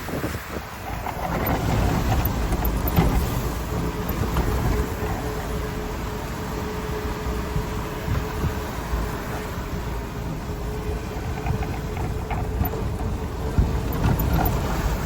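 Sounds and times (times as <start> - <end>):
low rumble of tires in snow: 0.0 - 15.0
golf cart drive whine: 0.4 - 15.0.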